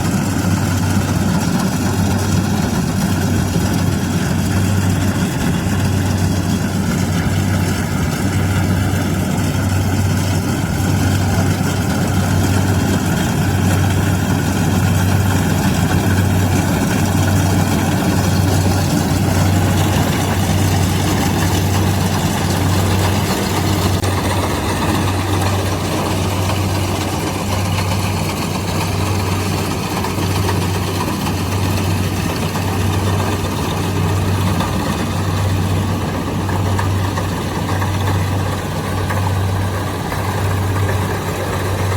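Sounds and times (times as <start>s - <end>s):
combine harvester engine running: 0.0s - 41.9s.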